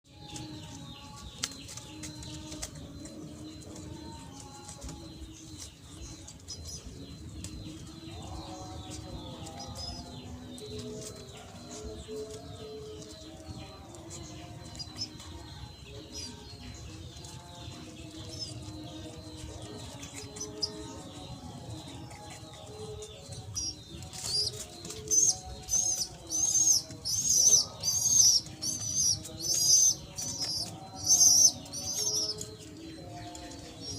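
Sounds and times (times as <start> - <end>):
bird chirping: 0.1 - 33.9.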